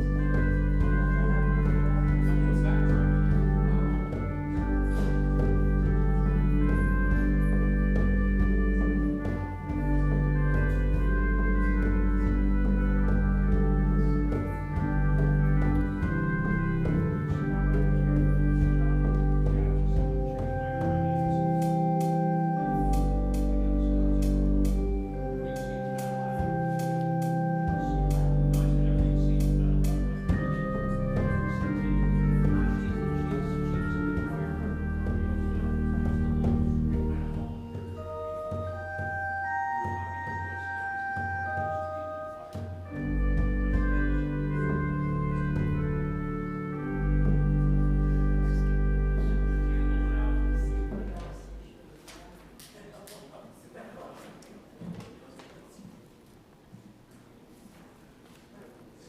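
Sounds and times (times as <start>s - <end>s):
organ playing sustained chords: 0.0s - 52.0s.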